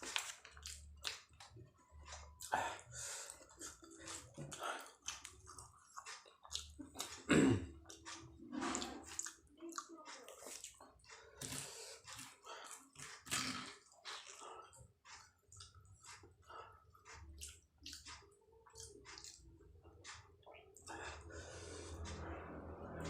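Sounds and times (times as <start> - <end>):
wet chewing and mouth sounds: 0.0 - 21.3.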